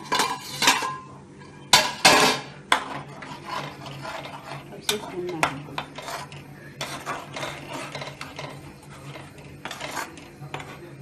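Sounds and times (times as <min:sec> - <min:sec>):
spoon scraping metal pot: 0:00.0 - 0:11.0.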